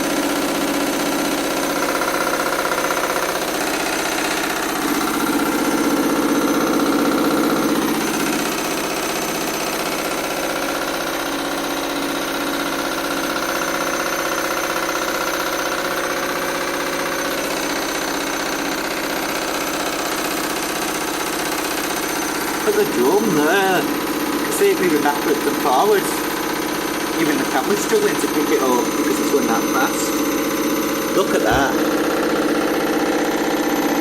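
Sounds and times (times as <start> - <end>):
washing machine motor whining: 0.0 - 34.0.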